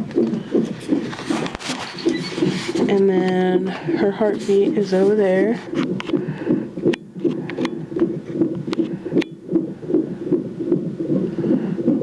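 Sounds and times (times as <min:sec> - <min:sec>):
fetal heartbeat on doppler speaker: 0:00.0 - 0:12.0.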